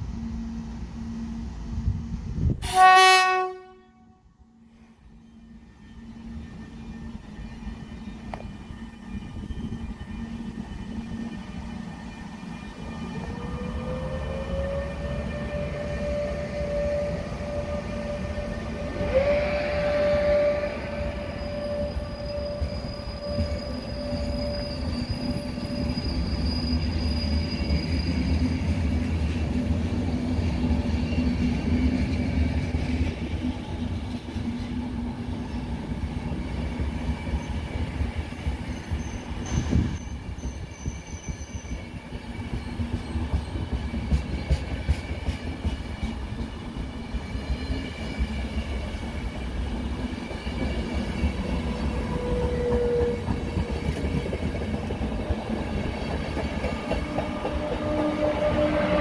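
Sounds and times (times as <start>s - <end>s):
electric locomotive whine: 0.0s - 59.0s
train coaches rumbling: 5.4s - 59.0s.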